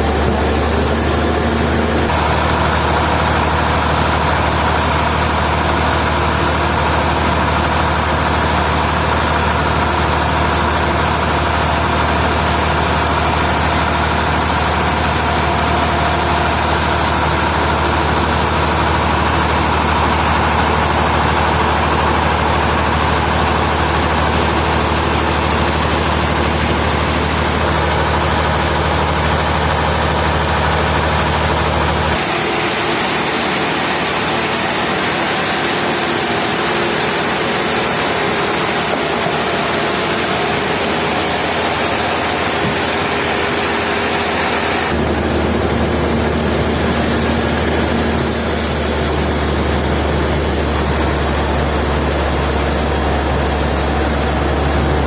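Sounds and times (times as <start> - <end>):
heavy engine running: 0.0 - 55.0.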